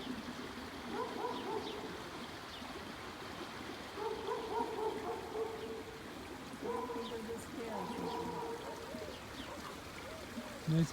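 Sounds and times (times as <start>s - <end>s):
running water: 0.0s - 10.9s.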